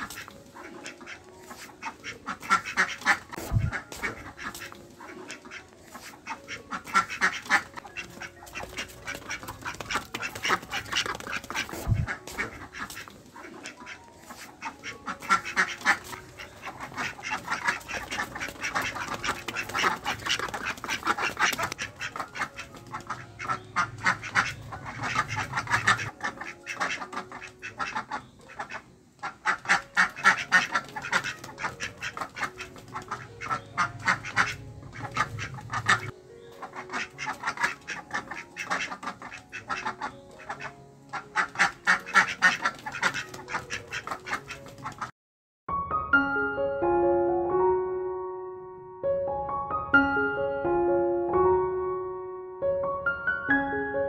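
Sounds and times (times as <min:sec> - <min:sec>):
ducks quacking: 0:00.0 - 0:45.1.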